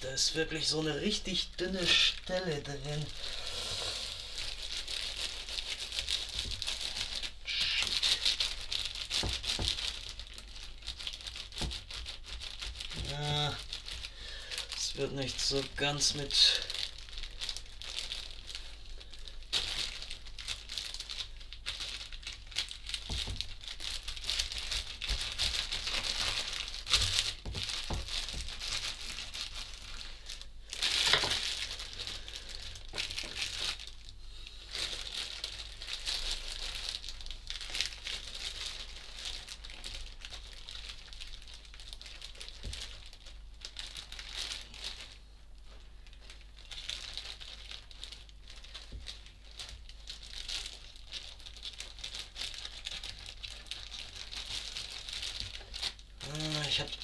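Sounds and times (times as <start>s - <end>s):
plastic bag crinkling: 0.0s - 57.0s.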